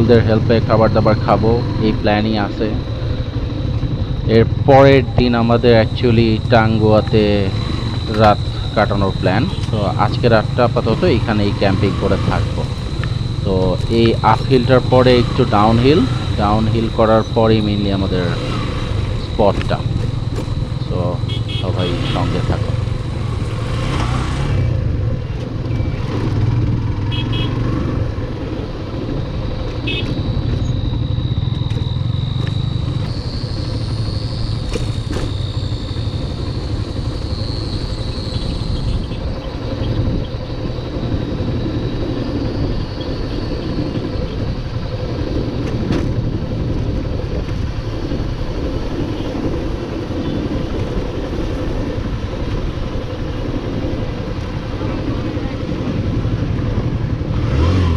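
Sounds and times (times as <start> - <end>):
motorcycle engine running: 0.0 - 57.9
road and wind noise: 0.0 - 57.9.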